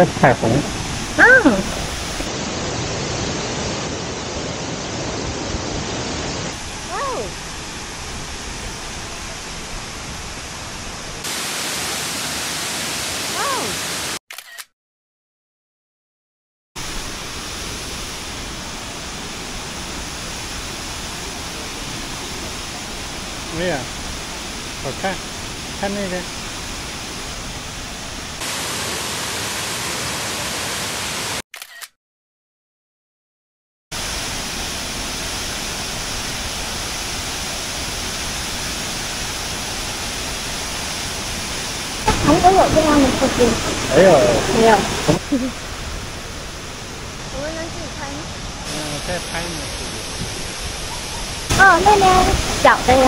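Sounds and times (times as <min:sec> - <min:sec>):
waterfall rushing: 0:00.0 - 0:14.2, 0:16.8 - 0:31.4, 0:34.0 - 0:53.0.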